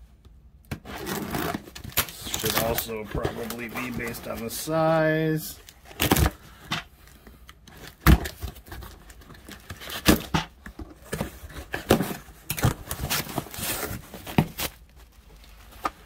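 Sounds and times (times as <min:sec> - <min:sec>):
paper packaging rustling: 0:00.8 - 0:06.4, 0:07.7 - 0:16.0.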